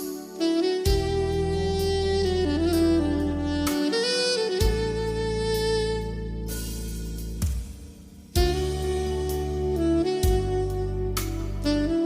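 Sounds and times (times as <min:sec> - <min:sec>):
instrumental music with held notes: 0:00.0 - 0:12.0.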